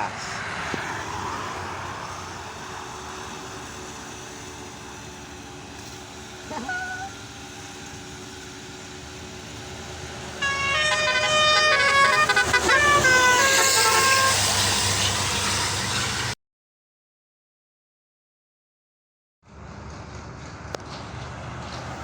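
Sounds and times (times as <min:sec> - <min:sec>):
traffic rumble and hiss: 0:00.0 - 0:16.4, 0:19.5 - 0:22.0.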